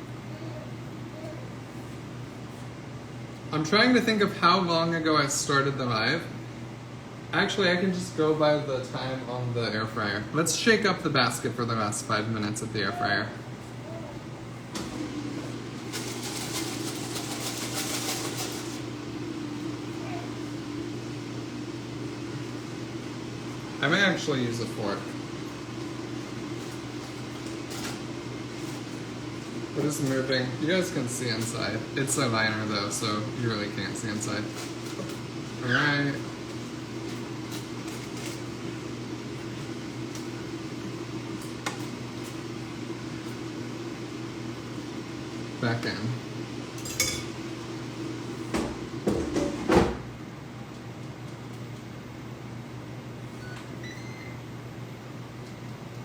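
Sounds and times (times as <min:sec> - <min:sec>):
appliance fan hum: 0:00.0 - 0:56.0.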